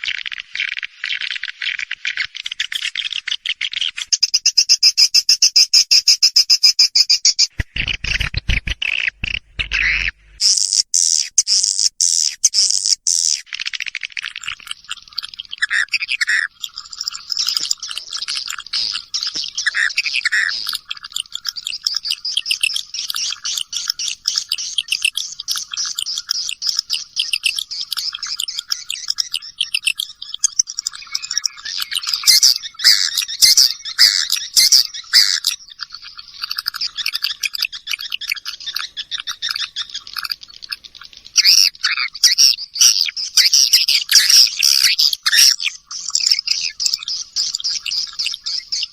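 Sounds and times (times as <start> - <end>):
swiftlets chirping and twittering: 2.2 - 48.9.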